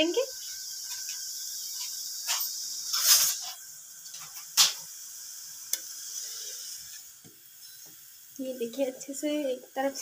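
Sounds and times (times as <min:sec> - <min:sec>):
soft steady sizzle: 0:00.0 - 0:10.0.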